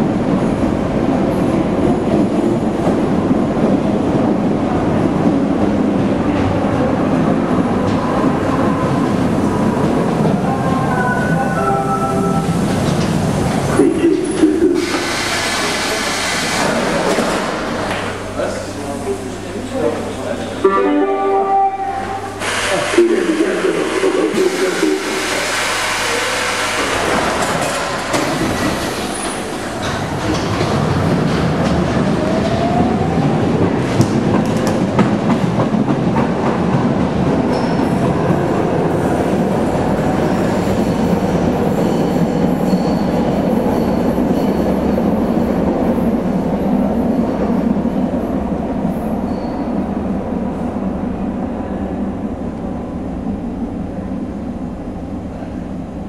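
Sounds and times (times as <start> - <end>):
metro train rumbling on rails: 0.0 - 56.0.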